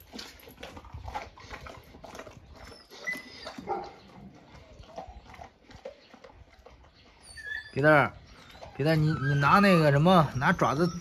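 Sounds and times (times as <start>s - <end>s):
dog chewing and crunching: 0.0s - 11.0s.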